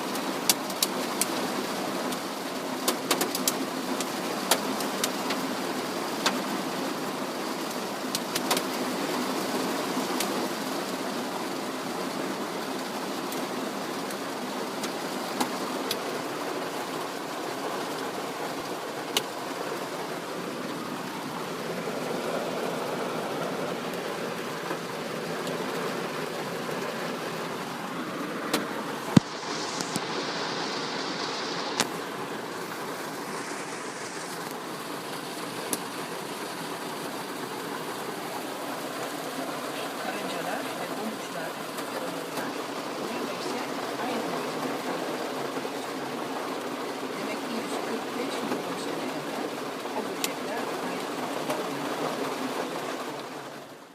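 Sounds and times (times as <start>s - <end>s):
hail pattering on vehicle: 0.0s - 30.3s, 31.1s - 53.9s.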